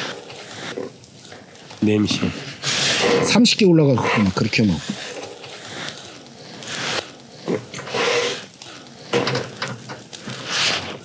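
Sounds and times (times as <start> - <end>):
skewers clicking and scraping on grill: 0.0 - 11.0.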